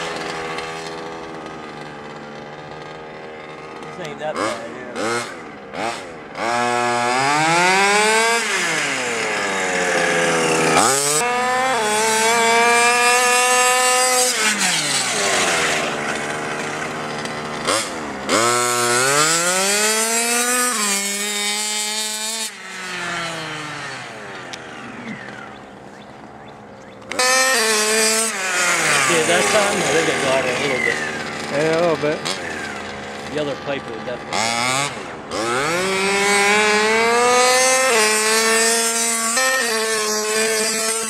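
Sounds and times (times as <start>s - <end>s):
rc car engine revving: 0.0s - 41.0s.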